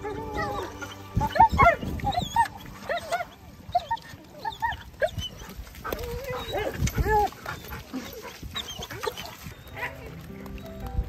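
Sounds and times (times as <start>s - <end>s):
dogs yipping and whining: 0.0s - 10.8s.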